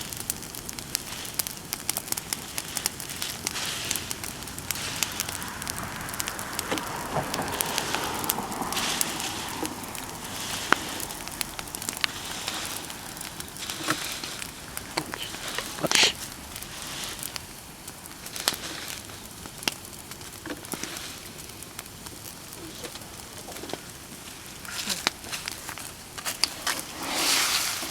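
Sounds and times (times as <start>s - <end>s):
bonfire crackling and popping: 0.0s - 27.9s.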